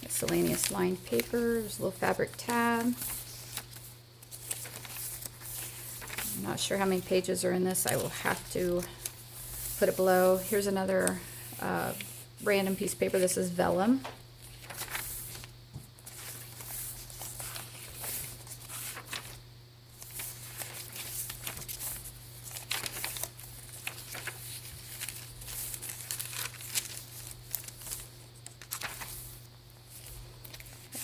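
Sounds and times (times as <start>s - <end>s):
paper rustling and crinkling: 0.0s - 31.0s.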